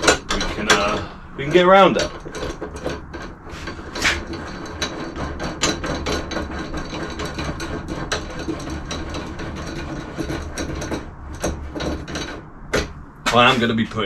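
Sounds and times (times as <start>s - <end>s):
equipment clicking and clattering: 0.0s - 13.7s.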